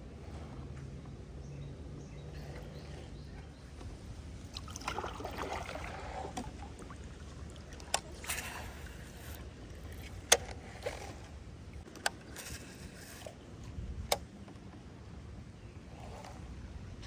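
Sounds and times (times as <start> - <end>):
water sloshing around kayak: 2.0 - 17.0.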